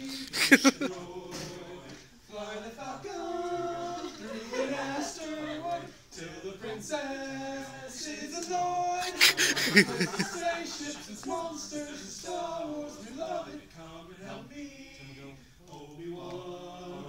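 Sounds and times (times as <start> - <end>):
men singing unaccompanied: 0.0 - 17.0.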